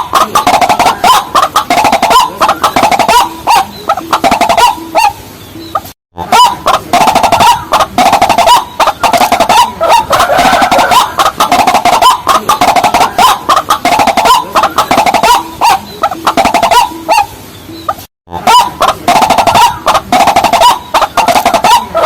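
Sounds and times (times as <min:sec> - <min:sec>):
rails clucking calls: 0:00.0 - 0:22.0.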